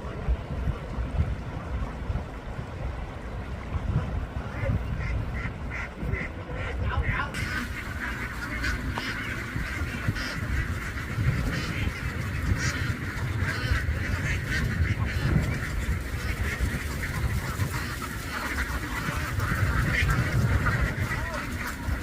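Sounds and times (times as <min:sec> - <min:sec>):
steady low rumble: 0:00.0 - 0:22.0
flock of ducks quacking: 0:03.8 - 0:22.0.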